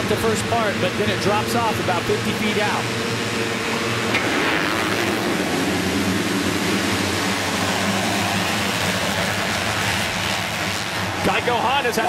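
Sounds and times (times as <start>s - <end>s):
motocross bikes at full throttle: 0.0s - 12.0s.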